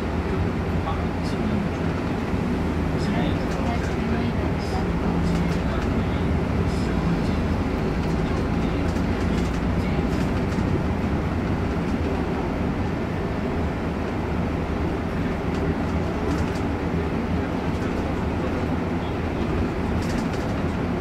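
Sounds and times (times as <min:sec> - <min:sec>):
bus engine drone: 0:00.0 - 0:21.0
road rumble: 0:00.0 - 0:21.0.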